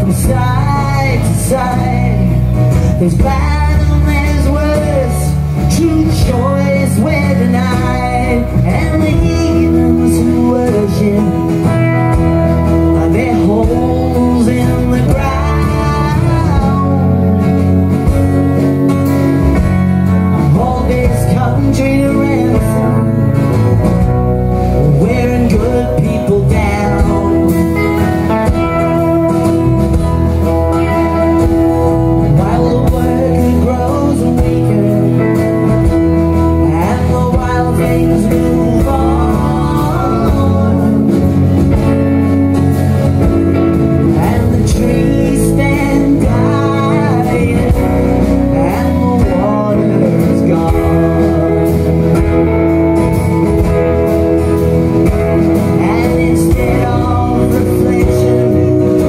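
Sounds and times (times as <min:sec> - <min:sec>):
bending guitar lead line: 0:00.0 - 0:59.0
live country band playing: 0:00.0 - 0:59.0.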